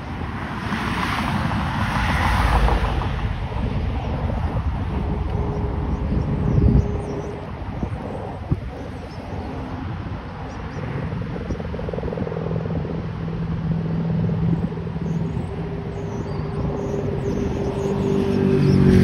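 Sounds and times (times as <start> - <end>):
highway traffic hum: 0.0 - 19.0
wind noise on microphone: 0.0 - 19.0.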